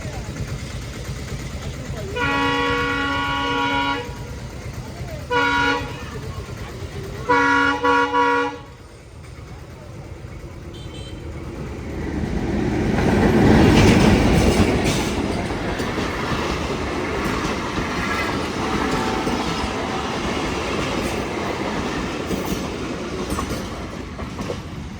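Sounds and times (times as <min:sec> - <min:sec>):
train rumble and wheel clatter: 0:00.0 - 0:24.9.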